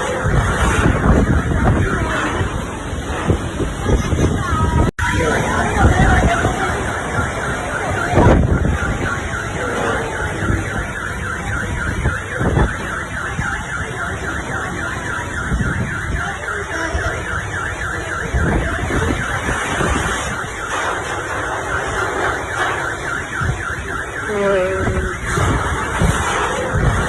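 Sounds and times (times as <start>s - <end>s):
car alarm: 0.0s - 2.5s, 5.0s - 27.0s
wind buffeting microphone: 0.0s - 27.0s.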